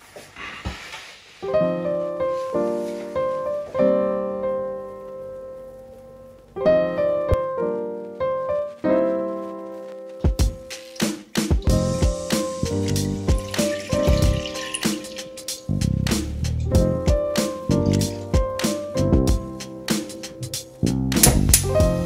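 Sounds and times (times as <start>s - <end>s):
piano chords: 1.4s - 22.0s.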